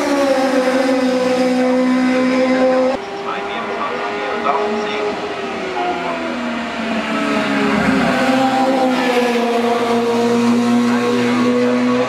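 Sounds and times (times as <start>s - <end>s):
racing car engine high revs: 0.0s - 12.0s.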